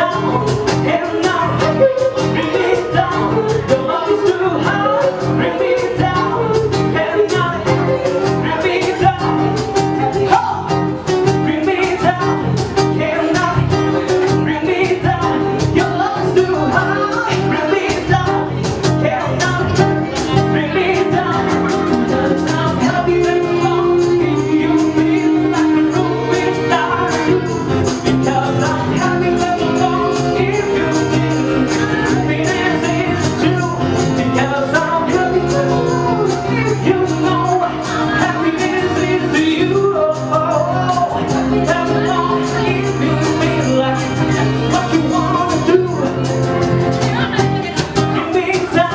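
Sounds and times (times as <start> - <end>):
acoustic guitar: 0.0 - 48.9
bass guitar: 0.0 - 48.9
cajon beat: 0.0 - 48.9
man singing: 0.0 - 48.9
woman singing: 0.0 - 48.9.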